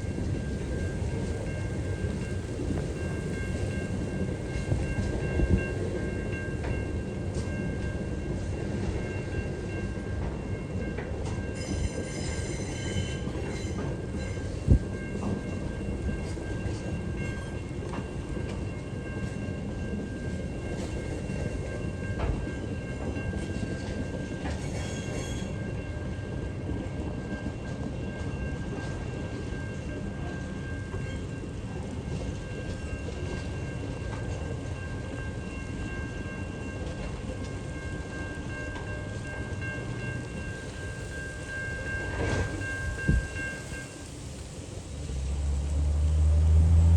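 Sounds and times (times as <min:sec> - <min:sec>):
train wheels squealing on rails: 0:00.0 - 0:26.2, 0:27.0 - 0:46.9
freight train wagons rumbling: 0:00.0 - 0:46.9.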